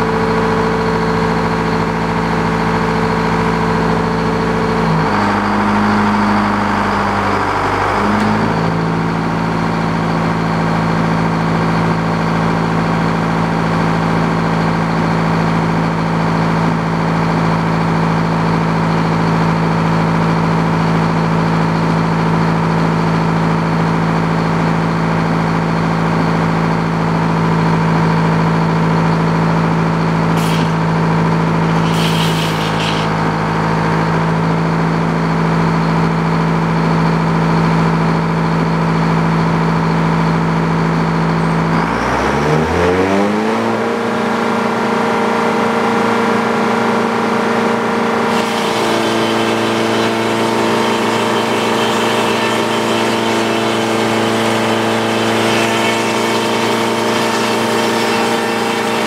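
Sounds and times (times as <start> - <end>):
sawmill engine humming: 0.0 - 59.0.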